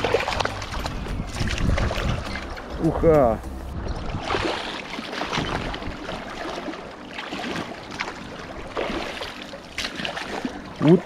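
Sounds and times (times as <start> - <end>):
river water splashing around legs: 0.0 - 11.0.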